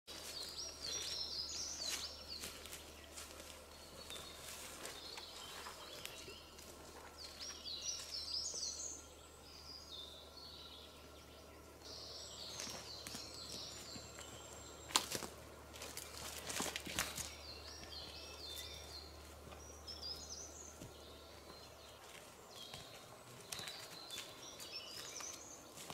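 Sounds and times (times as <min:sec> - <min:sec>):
faint low hum: 0:00.1 - 0:25.9
songbird singing: 0:00.1 - 0:25.9.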